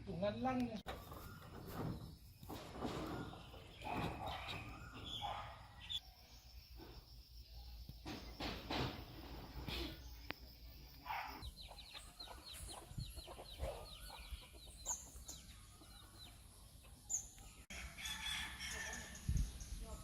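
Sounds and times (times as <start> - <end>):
birds chirping: 0.0 - 17.7.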